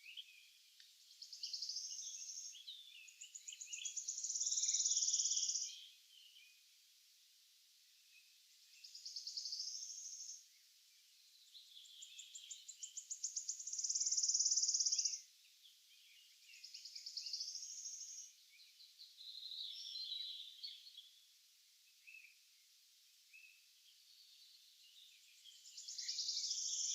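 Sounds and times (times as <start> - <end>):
other birds singing: 0.0 - 6.7, 8.1 - 22.4, 23.3 - 26.9
songbird song with sustained trill: 0.0 - 26.9.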